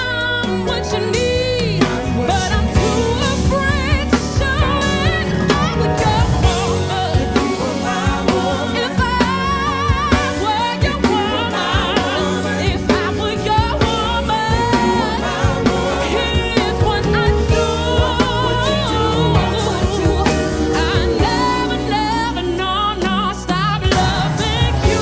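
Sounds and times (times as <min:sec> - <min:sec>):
backing music with drums: 0:00.0 - 0:25.0
woman singing soul ballad: 0:00.0 - 0:25.0.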